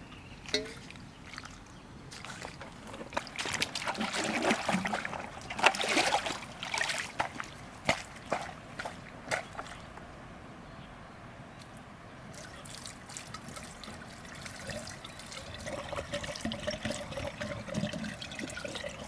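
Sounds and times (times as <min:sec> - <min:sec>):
water sloshing and splashing: 0:00.0 - 0:10.1, 0:12.3 - 0:19.0.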